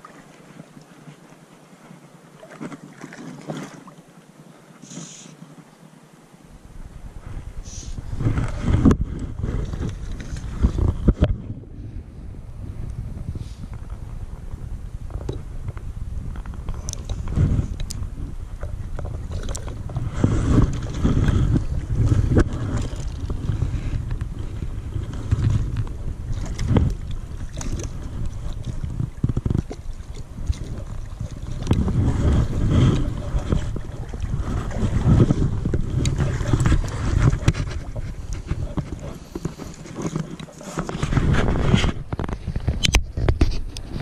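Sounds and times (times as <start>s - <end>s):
water sloshing and splashing: 0.0s - 4.3s, 8.0s - 11.5s, 16.3s - 44.0s
wind buffeting microphone: 6.6s - 44.0s.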